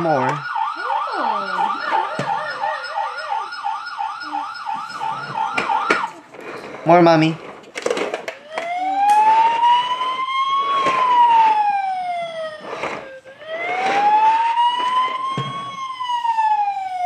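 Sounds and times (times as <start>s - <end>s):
toy electronic siren wail: 0.0s - 6.2s, 8.3s - 17.0s.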